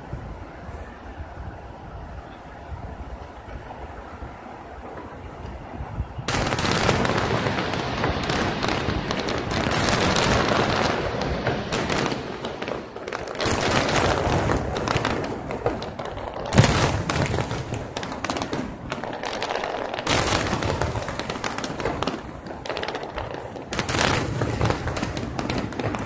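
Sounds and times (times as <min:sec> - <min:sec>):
aerial fireworks booming and crackling: 0:04.9 - 0:26.0.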